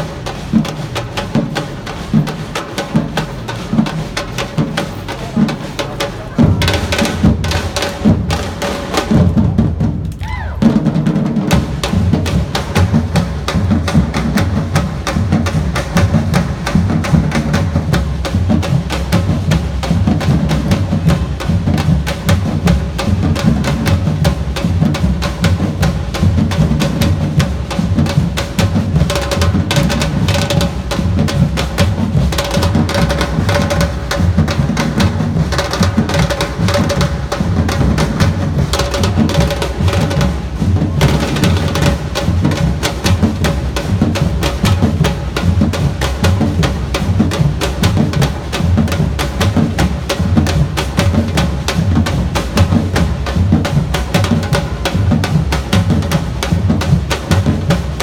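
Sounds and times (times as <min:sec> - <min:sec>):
drum band playing: 0:00.0 - 0:58.0.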